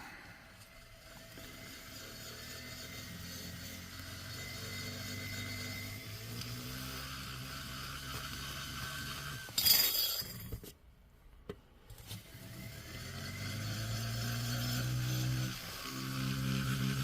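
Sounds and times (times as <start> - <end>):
small power tool humming: 0.0 - 10.5, 12.2 - 17.0.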